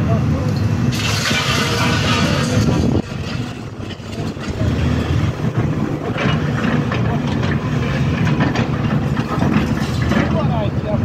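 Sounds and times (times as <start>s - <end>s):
excavator diesel engine under load: 0.0s - 11.0s
hydraulics working: 0.0s - 11.0s
metallic clanks: 1.0s - 10.6s.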